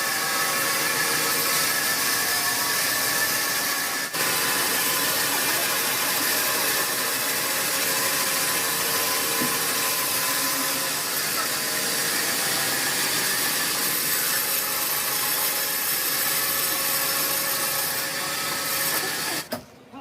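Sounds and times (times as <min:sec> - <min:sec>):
sawmill machinery running: 0:00.0 - 0:19.6.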